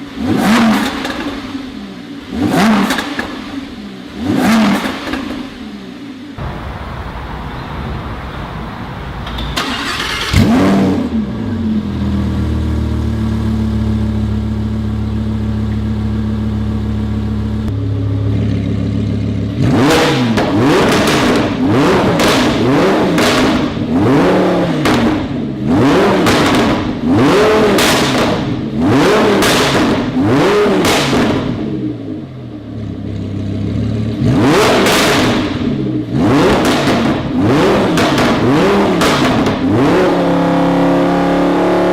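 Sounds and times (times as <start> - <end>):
engine idling and revving: 0.0 - 6.6, 9.2 - 41.9.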